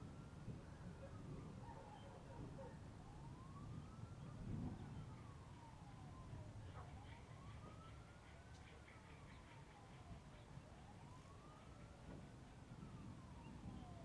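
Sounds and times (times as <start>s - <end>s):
distant siren wailing: 0.0s - 14.0s.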